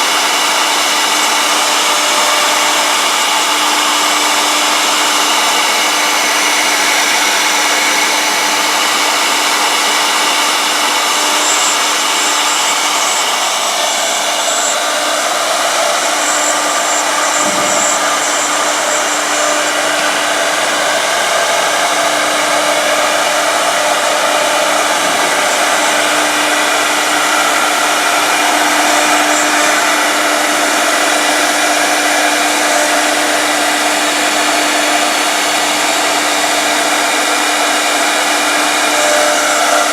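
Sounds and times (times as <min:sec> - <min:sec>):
machine whine and hiss: 0:00.0 - 0:39.9.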